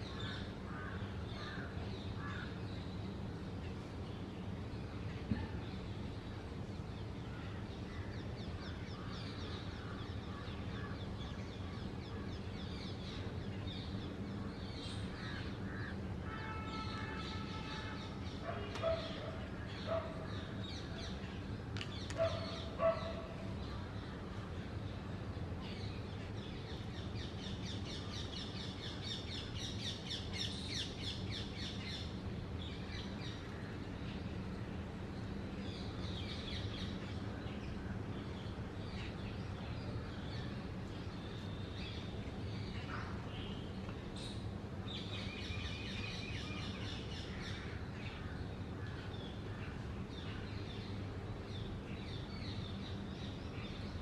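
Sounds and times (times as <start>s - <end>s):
low background hum: 0.0s - 54.0s.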